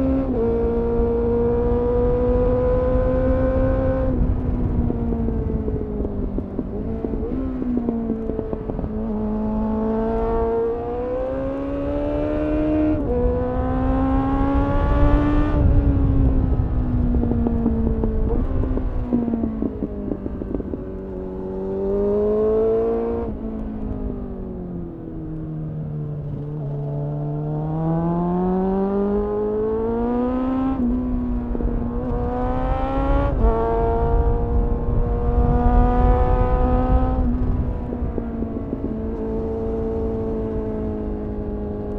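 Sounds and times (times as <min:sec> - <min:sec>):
wind rushing over microphone: 0:00.0 - 0:25.2, 0:26.0 - 0:41.9
motorcycle engine revving: 0:00.0 - 0:25.3, 0:26.0 - 0:41.9.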